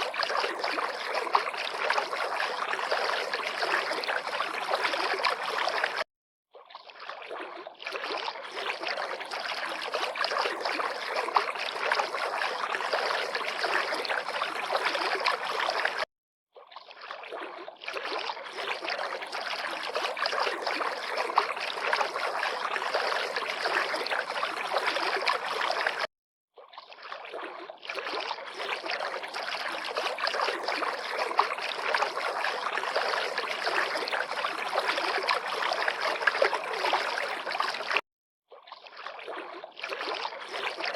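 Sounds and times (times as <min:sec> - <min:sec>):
river water lapping and splashing: 0:00.0 - 0:40.9.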